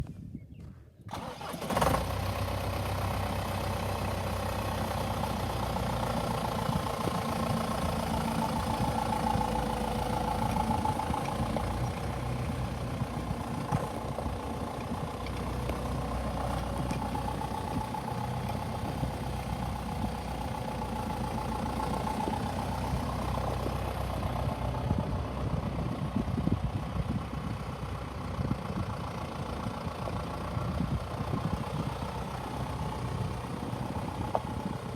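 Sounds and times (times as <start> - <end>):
tractor diesel engine starting and idling: 1.0 - 34.9.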